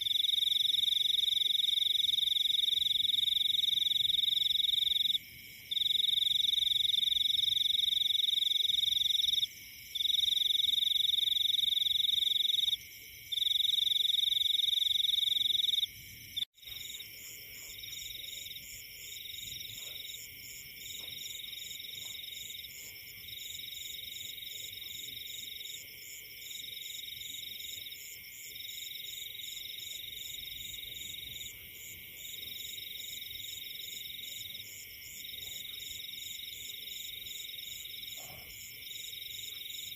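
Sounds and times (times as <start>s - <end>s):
frogs and insects trilling: 0.0s - 39.9s.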